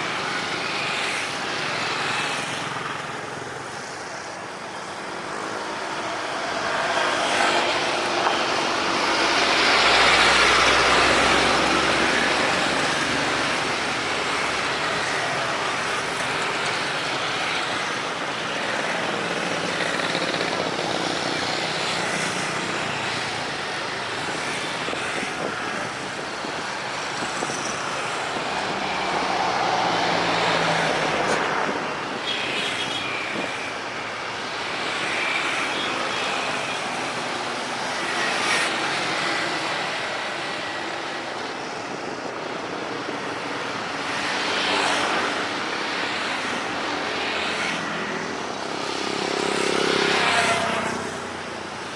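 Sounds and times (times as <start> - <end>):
road traffic passing: 0.0 - 51.9.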